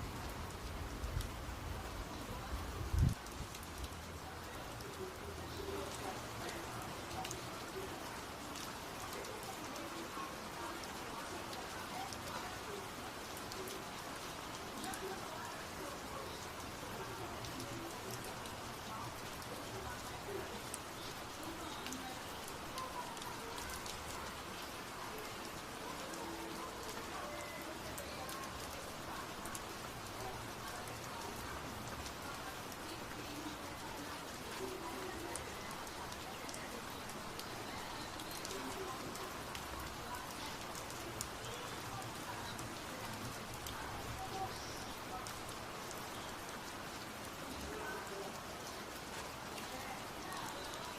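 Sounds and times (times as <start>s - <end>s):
raindrops ticking on surface: 0.0s - 50.9s
steady rain hissing: 0.0s - 50.9s.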